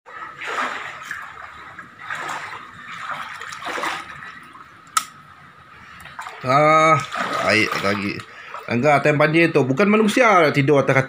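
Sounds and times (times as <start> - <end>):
wading through water: 0.1 - 9.5.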